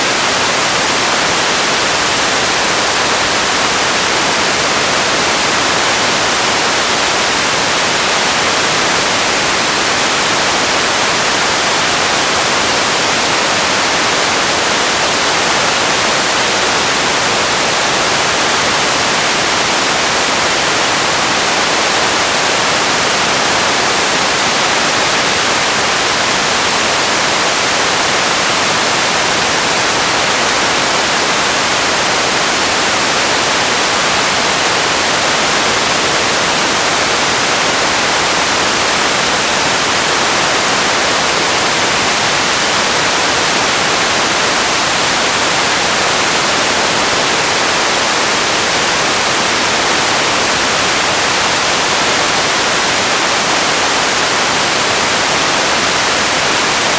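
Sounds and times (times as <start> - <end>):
steady static hiss: 0.0 - 56.9.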